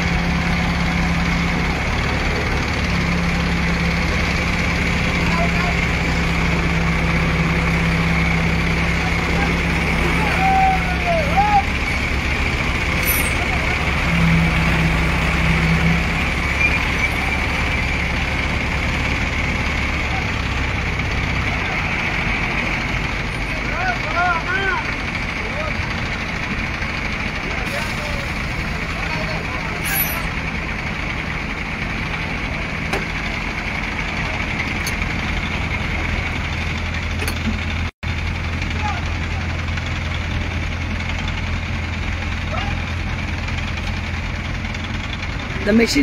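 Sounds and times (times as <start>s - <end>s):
diesel engines running: 0.0s - 46.0s.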